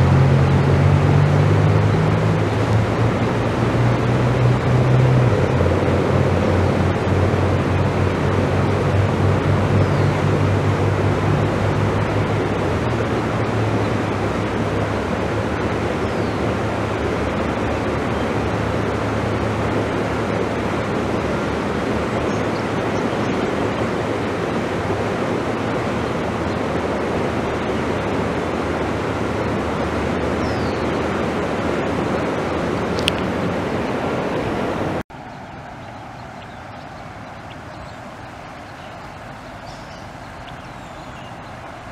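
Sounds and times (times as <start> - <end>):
floodwater rushing: 0.0 - 41.9
vehicle engine hum: 0.0 - 41.9.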